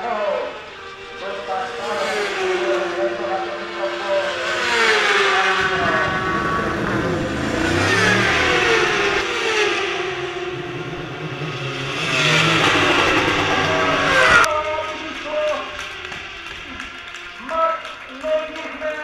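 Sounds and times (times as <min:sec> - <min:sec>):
racing motorcycles passing at high revs: 0:00.1 - 0:19.0.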